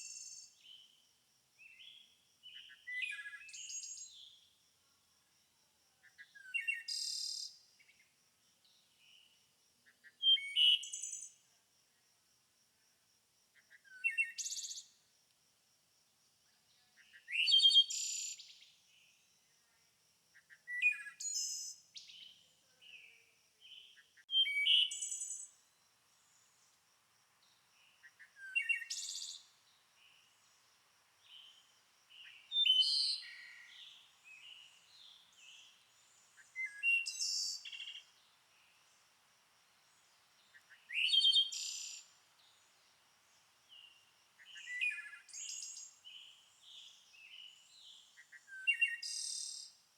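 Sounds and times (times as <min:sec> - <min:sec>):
songbird singing: 0:00.0 - 0:04.6, 0:05.9 - 0:11.5, 0:13.5 - 0:15.1, 0:16.5 - 0:19.8, 0:20.4 - 0:49.8.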